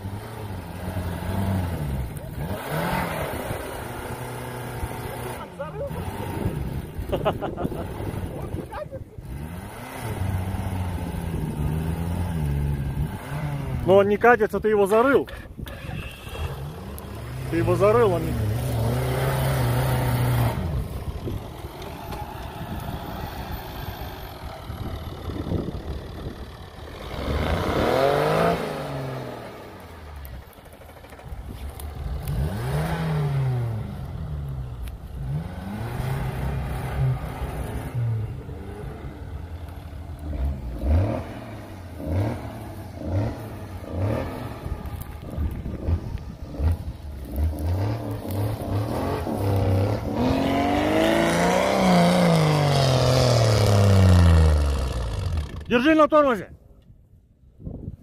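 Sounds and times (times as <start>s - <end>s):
off-road engine revving: 0.0s - 56.5s.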